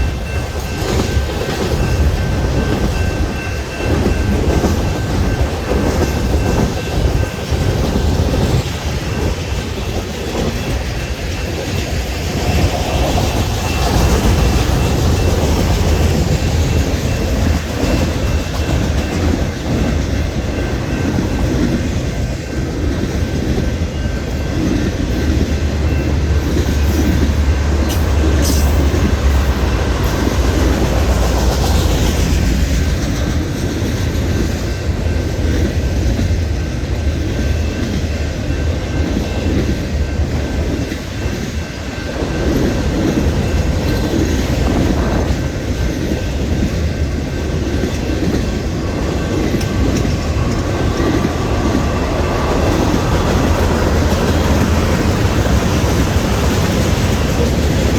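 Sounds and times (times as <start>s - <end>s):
freight train rumbling past: 0.0s - 57.9s
wheels clacking over rail joints: 0.0s - 57.9s.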